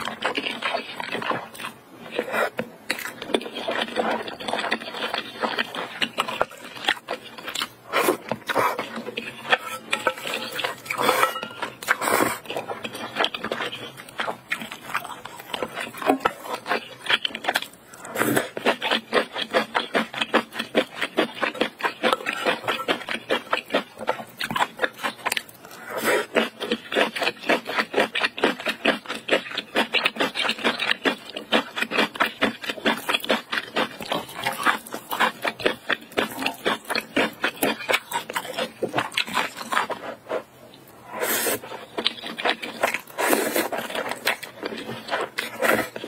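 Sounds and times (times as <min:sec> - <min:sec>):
wet chewing mouth sounds: 0:00.0 - 0:46.0.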